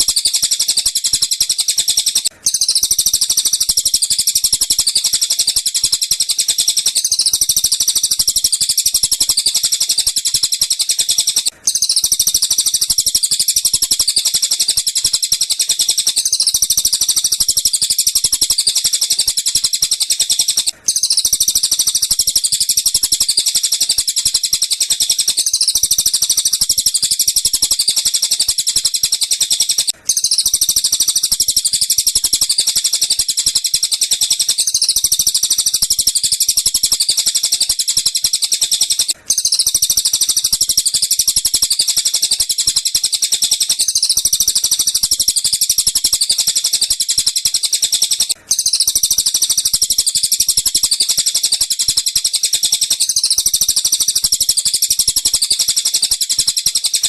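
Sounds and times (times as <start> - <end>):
high-pitched bird chirping and trilling: 0.0 - 57.0.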